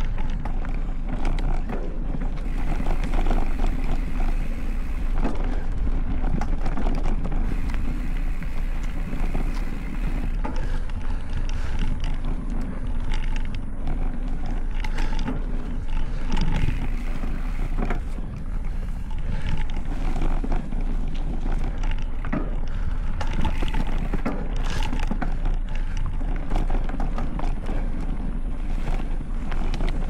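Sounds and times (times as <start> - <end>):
bike knocks and rattles: 0.0 - 30.0
bike tyre noise on dirt: 0.0 - 30.0
wind rush on microphone: 0.0 - 30.0.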